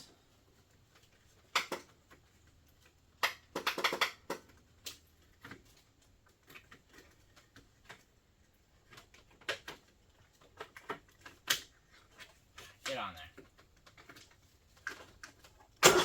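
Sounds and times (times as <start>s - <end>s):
clicks and rattles of wiring: 0.0s - 16.0s.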